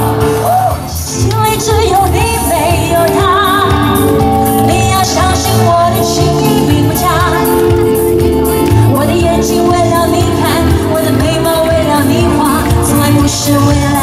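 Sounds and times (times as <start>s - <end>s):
pop band playing: 0.0s - 14.0s
woman singing with vibrato: 1.2s - 7.8s, 8.8s - 14.0s.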